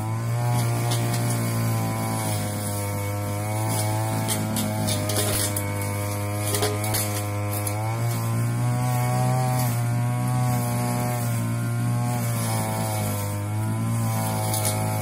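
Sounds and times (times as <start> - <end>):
brush cutter engine running: 0.0 - 15.0.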